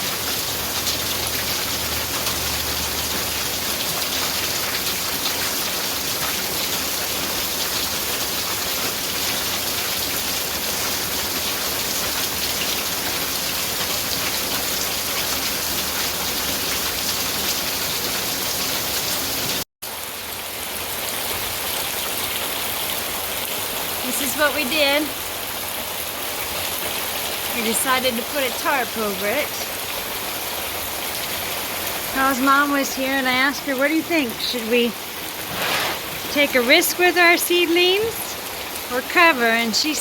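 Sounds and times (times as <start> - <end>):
rain pattering on surfaces: 0.0 - 40.0.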